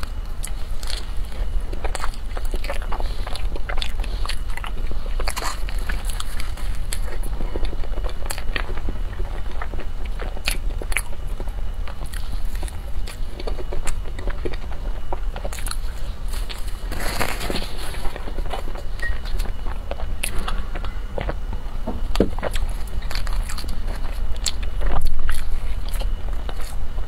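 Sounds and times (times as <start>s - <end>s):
chewing a soft bun: 0.0s - 27.0s
steady low hum: 0.0s - 27.0s.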